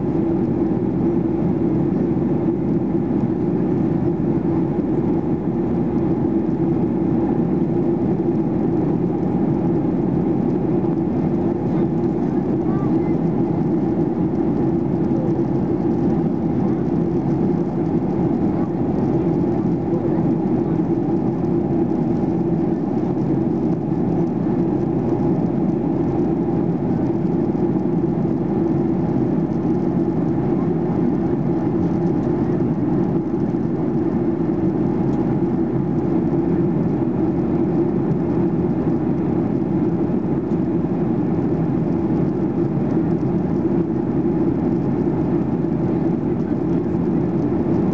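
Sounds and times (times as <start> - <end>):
jet engine drone: 0.0 - 47.9.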